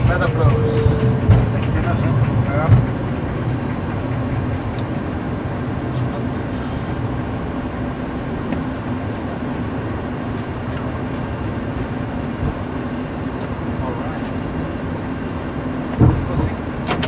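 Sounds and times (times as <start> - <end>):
airplane rumble rolling on ground: 0.0 - 17.0.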